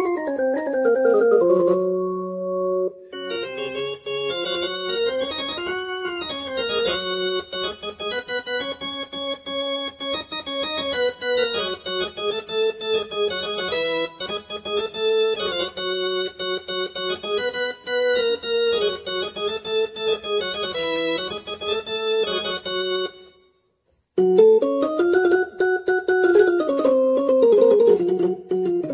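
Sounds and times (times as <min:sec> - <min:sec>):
keyboard organ melody: 0:00.0 - 0:28.9.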